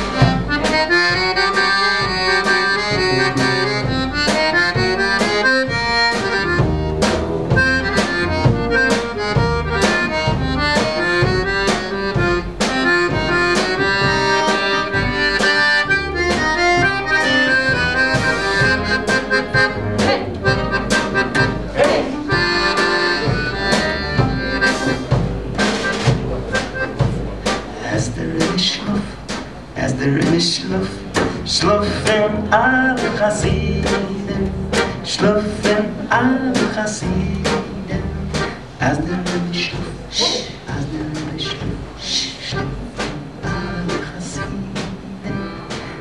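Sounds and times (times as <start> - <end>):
band playing instrumental: 0.0 - 46.0.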